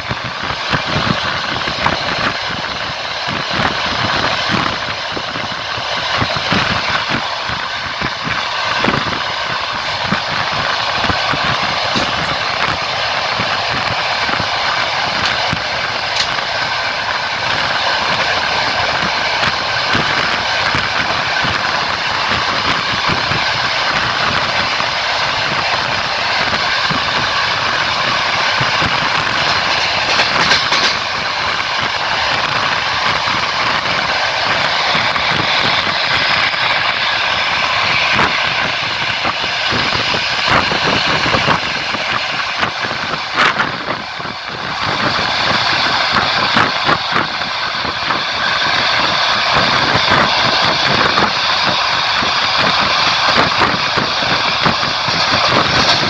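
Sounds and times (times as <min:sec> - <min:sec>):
sharp knocks of train wheels: 0:00.0 - 0:56.0
train wheel and rail noise: 0:00.0 - 0:56.0.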